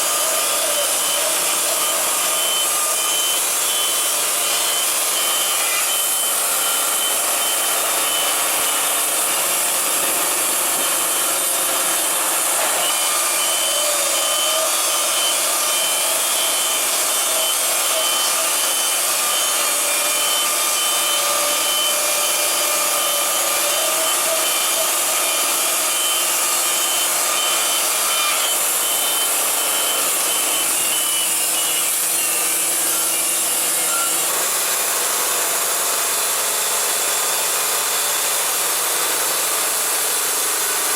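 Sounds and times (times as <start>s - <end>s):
band sawmill cutting through log: 0.0s - 40.9s.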